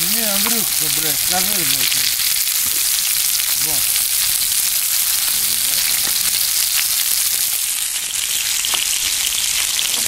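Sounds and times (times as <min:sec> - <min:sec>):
sausages sizzling in oil: 0:00.0 - 0:10.0.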